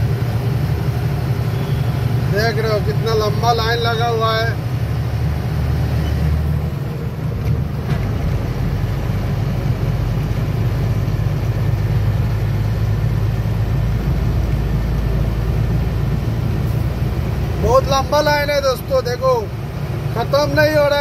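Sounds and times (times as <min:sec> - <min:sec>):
road noise: 0:00.0 - 0:21.0
truck engine running: 0:00.0 - 0:21.0.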